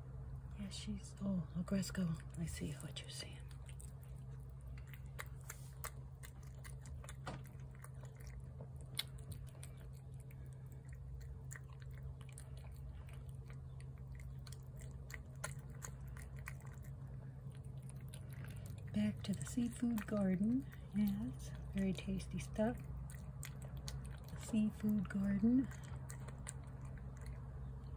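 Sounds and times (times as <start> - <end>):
steady low hum: 0.0 - 27.9
cat chewing and lapping: 1.6 - 27.9.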